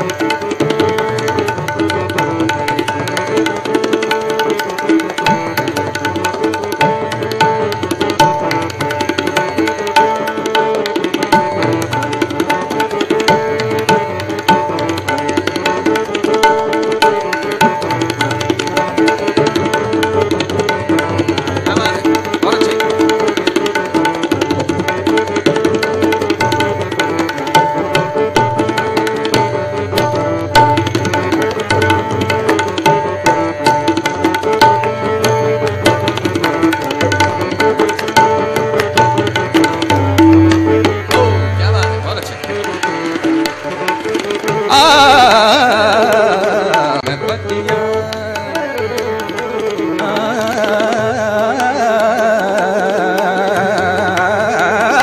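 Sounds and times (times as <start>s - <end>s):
sustained harmonium notes: 0.0s - 55.0s
tabla playing fast rhythm: 0.0s - 55.0s.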